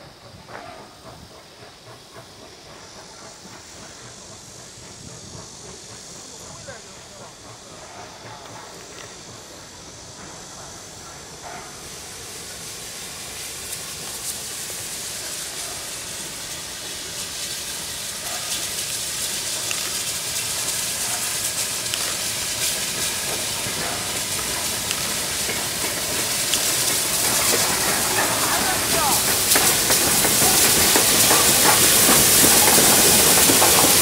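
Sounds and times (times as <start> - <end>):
steam locomotive hissing steam: 0.0 - 34.0.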